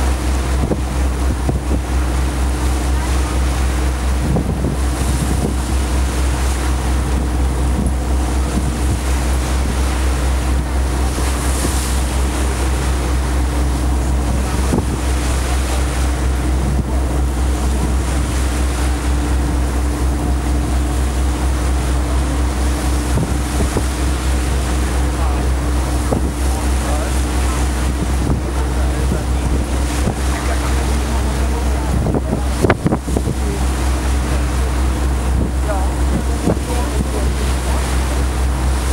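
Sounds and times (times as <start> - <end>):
boat engine droning: 0.0 - 38.9
water rushing along hull: 0.0 - 38.9
wind buffeting microphone: 0.0 - 38.9.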